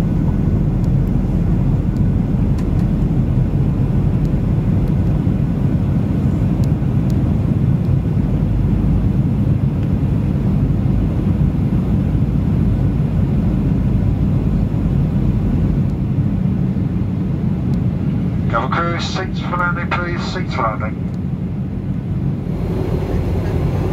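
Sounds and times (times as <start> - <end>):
jet engine and airflow rumble: 0.0 - 23.9.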